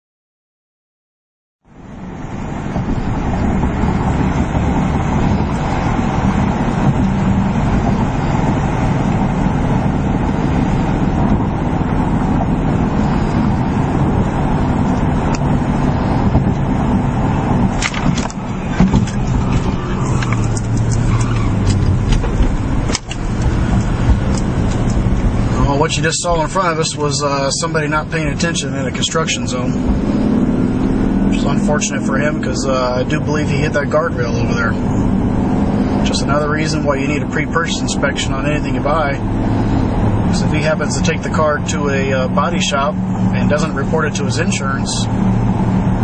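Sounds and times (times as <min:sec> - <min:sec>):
car road and engine noise: 0:01.6 - 0:46.0.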